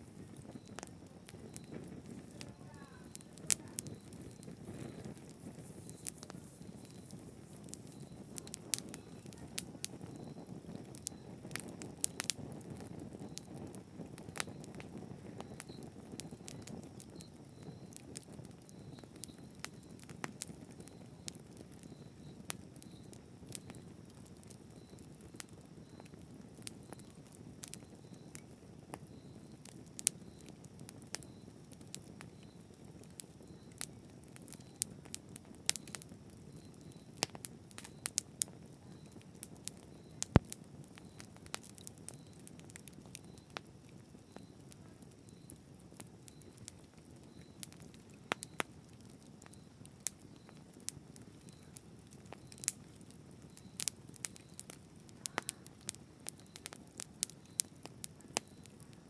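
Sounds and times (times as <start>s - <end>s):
burning wood crackling and popping: 0.0s - 59.0s
campfire flames rushing: 0.0s - 59.0s.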